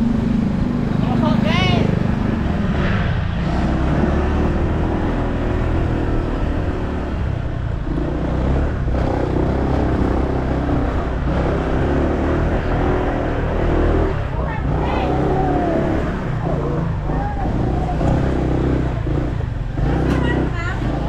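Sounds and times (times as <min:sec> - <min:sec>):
motorbike engine riding: 0:00.0 - 0:21.0.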